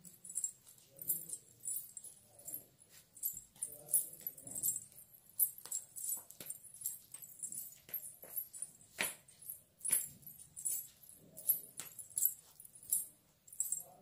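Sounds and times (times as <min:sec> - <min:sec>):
tiny bells jingling with footsteps: 0:00.0 - 0:14.0.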